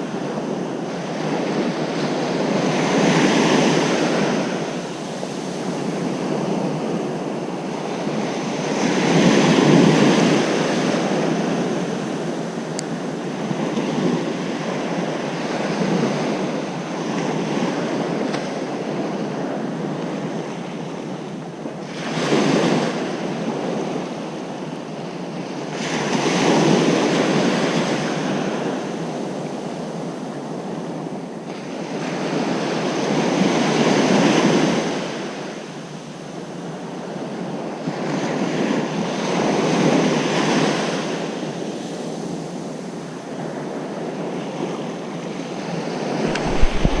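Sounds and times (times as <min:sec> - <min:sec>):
ocean surf breaking on beach: 0:00.0 - 0:47.0.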